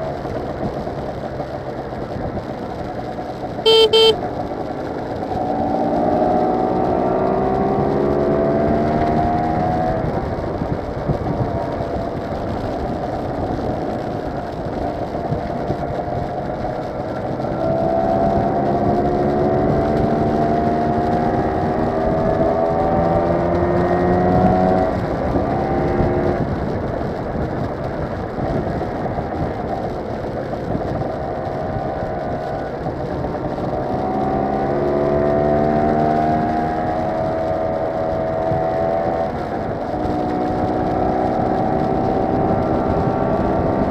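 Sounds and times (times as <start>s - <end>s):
motor scooter engine accelerating: 0.0s - 43.9s
wind and road noise: 0.0s - 43.9s.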